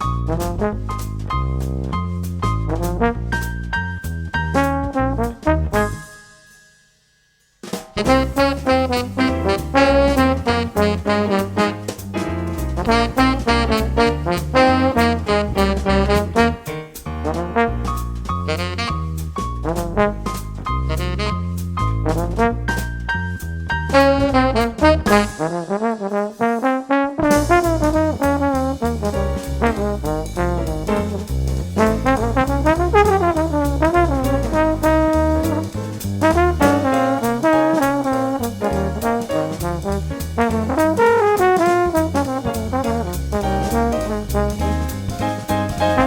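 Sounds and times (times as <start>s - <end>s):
upbeat jazz music with brass: 0.0s - 6.4s, 7.9s - 46.0s.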